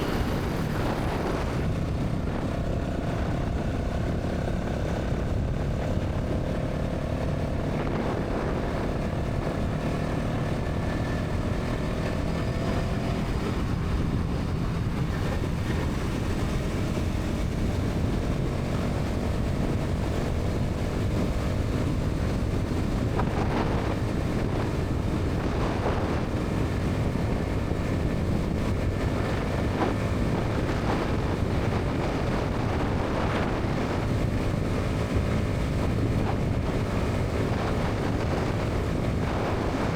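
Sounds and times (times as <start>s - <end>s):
motorcycle engine at highway speed: 0.0s - 39.9s
wind rush on microphone: 0.0s - 39.9s.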